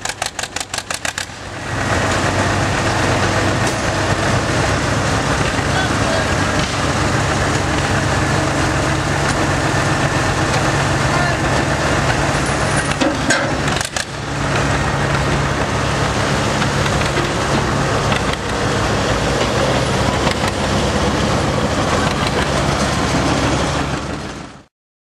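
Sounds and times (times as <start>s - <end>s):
tractor engine running under load: 0.0s - 24.7s.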